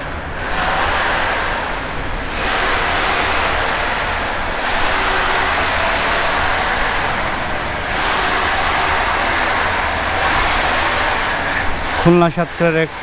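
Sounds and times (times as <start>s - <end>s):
rushing rumbling din in underpass: 0.0s - 13.0s.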